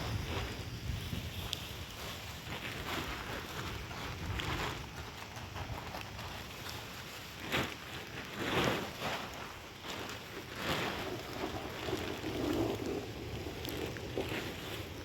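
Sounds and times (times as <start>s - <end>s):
wind gusting across microphone: 0.0s - 15.0s.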